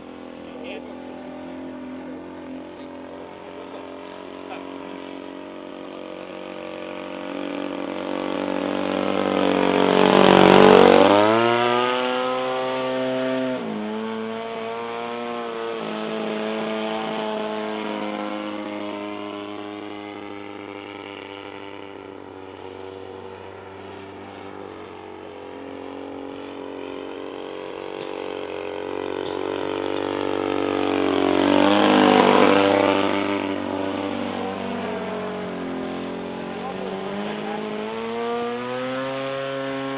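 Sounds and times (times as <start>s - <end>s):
model plane engine and propeller: 0.0s - 39.9s.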